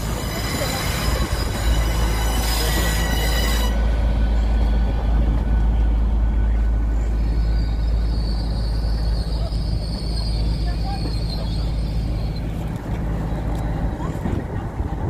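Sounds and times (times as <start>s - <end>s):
train wheels squealing on rails: 0.0s - 14.2s.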